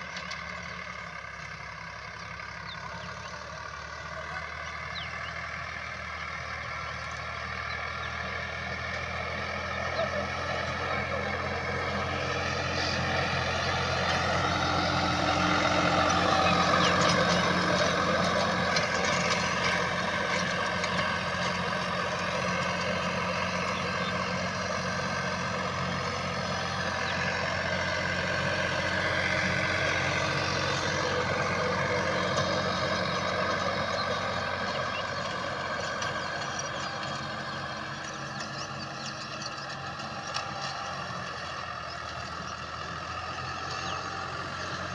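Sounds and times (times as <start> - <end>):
tractor engine droning: 0.0 - 44.9.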